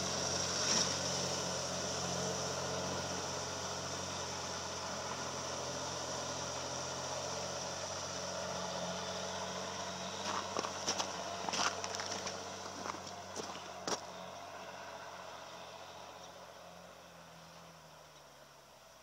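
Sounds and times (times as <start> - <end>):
diesel truck engine running: 0.0 - 18.8.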